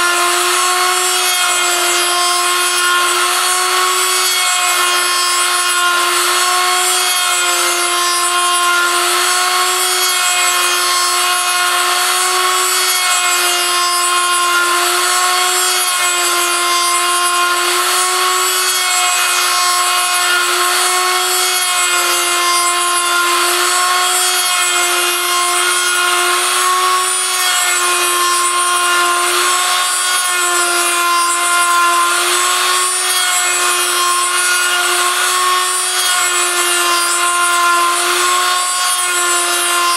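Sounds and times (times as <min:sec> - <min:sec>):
cutter rasping wood: 0:00.0 - 0:39.9
rotary tool motor whining: 0:00.0 - 0:39.9.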